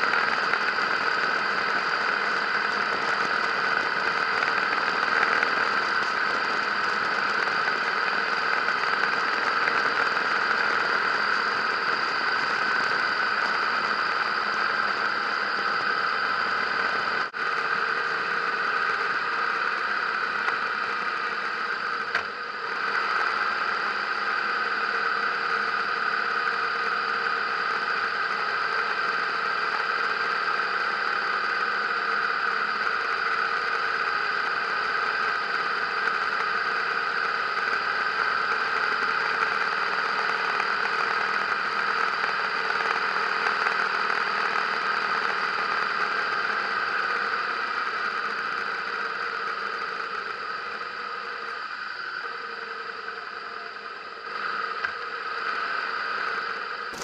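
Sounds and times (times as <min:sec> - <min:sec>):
motorcycle engine running: 0:00.0 - 0:51.6, 0:52.3 - 0:57.0.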